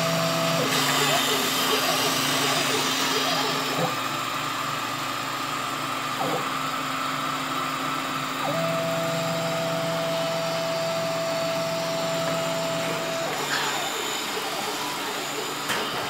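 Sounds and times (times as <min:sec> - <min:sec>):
mini mill cutting plywood: 0:00.0 - 0:04.6, 0:05.4 - 0:06.7, 0:08.2 - 0:16.0.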